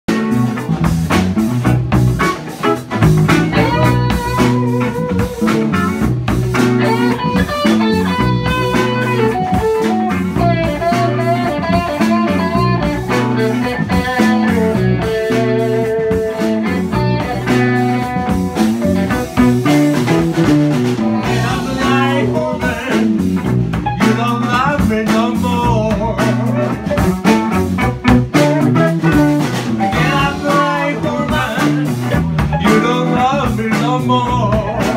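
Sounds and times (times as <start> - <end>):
bass and drums beat: 0.1 - 34.9
lead guitar: 0.1 - 34.9.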